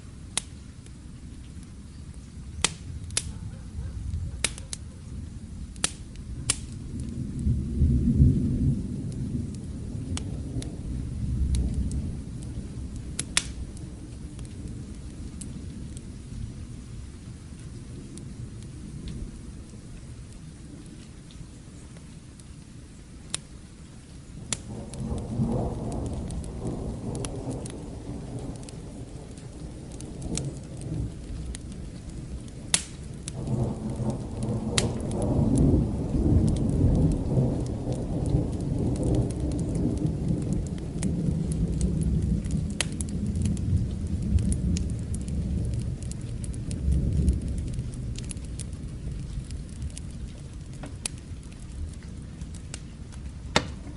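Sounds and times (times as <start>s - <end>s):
steady rain: 0.0s - 53.9s
rolling thunder: 2.7s - 20.9s, 24.4s - 53.9s.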